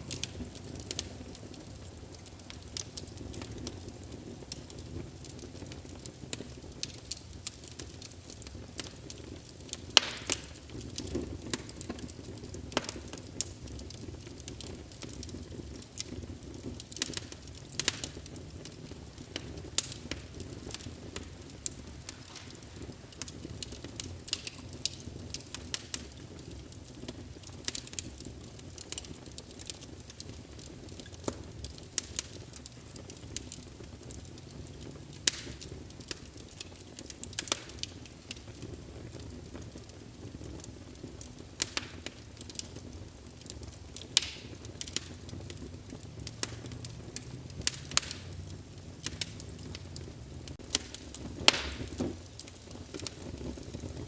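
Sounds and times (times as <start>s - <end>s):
fire flames rumbling: 0.0s - 54.0s
logs crackling and popping: 0.0s - 54.0s.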